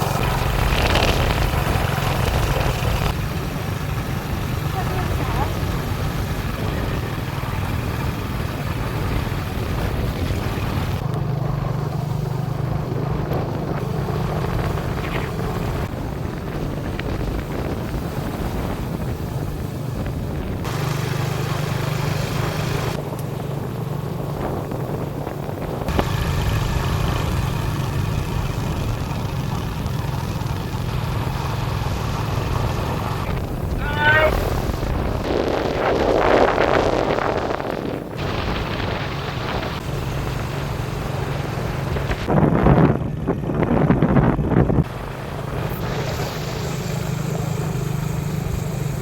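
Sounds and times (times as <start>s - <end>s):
engine running: 0.0s - 49.0s
wind buffeting microphone: 0.0s - 49.0s.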